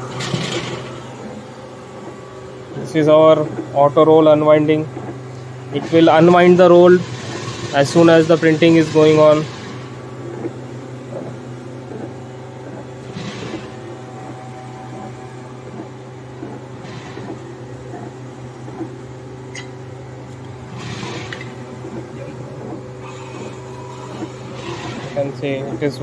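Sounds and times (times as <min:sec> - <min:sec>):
printer machine hum: 0:00.0 - 0:26.0.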